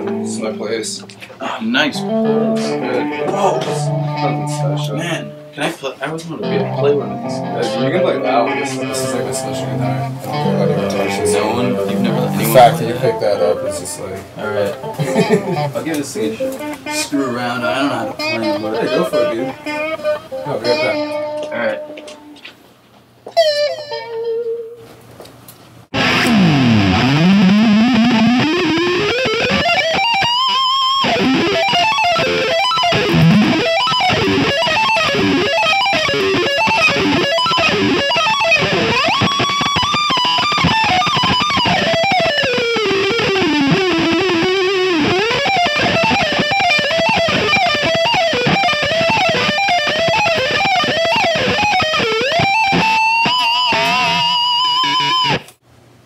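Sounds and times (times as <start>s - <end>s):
distorted electric guitar shredding: 0.0s - 22.4s, 25.9s - 55.6s.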